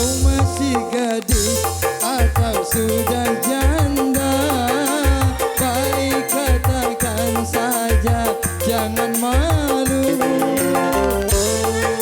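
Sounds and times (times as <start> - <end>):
electronic keyboard dance music: 0.0 - 12.0.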